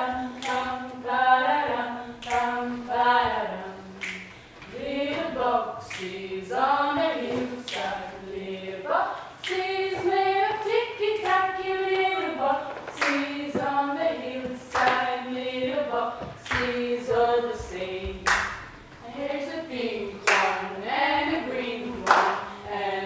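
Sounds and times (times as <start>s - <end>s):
group singing unaccompanied: 0.0s - 23.0s.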